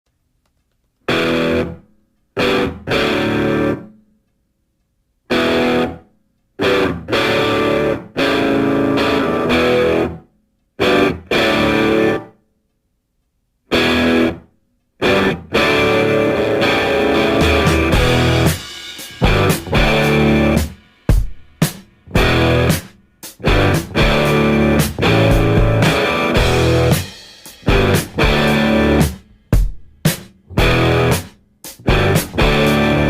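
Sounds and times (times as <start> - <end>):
distorted electric guitar chords: 1.1 - 1.8, 2.4 - 4.0, 5.3 - 6.0, 6.6 - 10.2, 10.8 - 12.4, 13.7 - 14.4, 15.0 - 33.0.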